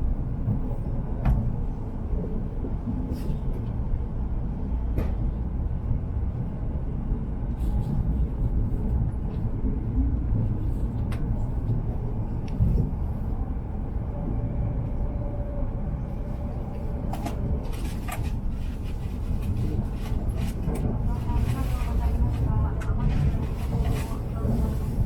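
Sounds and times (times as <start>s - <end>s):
train low rumble: 0.0s - 25.0s.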